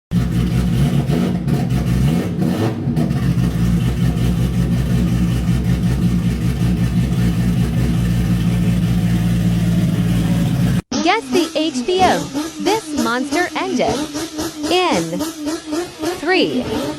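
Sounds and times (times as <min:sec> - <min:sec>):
car engine idling: 0:00.1 - 0:16.9.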